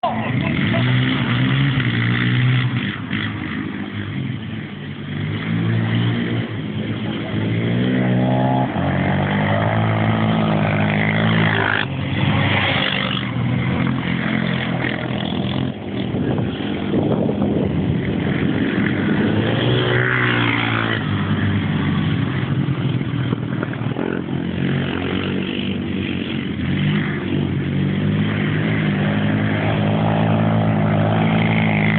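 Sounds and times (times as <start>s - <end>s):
quad bike engines revving: 0.0s - 31.9s.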